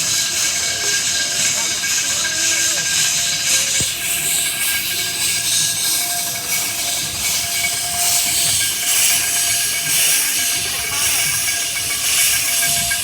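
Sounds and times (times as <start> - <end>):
steam locomotive hissing steam: 0.0 - 13.0.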